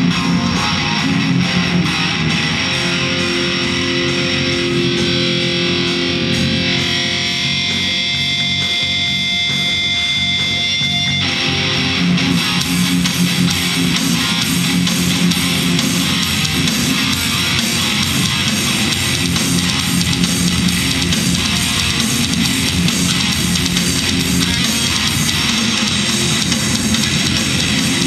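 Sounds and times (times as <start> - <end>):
high held tone: 0.0 - 28.0
loud electric guitar: 0.0 - 28.0.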